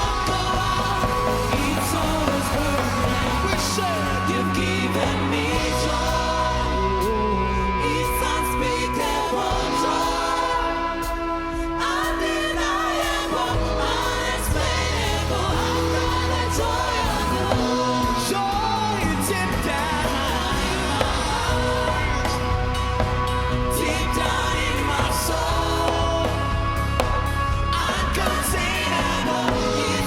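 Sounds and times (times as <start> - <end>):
people singing: 0.0 - 30.0
worship band playing: 0.0 - 30.0.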